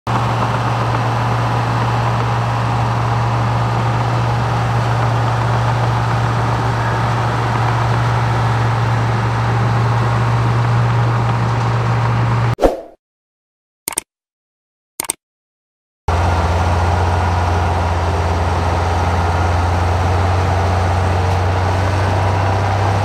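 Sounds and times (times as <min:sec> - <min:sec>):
heavy diesel engine running: 0:00.1 - 0:12.5, 0:16.1 - 0:23.0.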